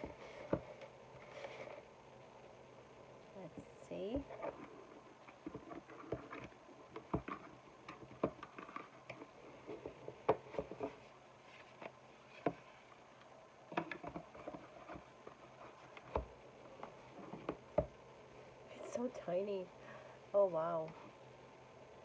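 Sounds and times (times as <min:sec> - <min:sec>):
soft rustling: 0:00.0 - 0:02.5, 0:03.3 - 0:13.4, 0:14.0 - 0:19.5.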